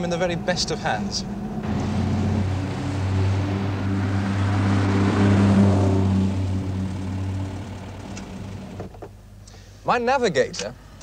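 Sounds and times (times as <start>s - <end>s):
car engine running: 0.0s - 9.3s.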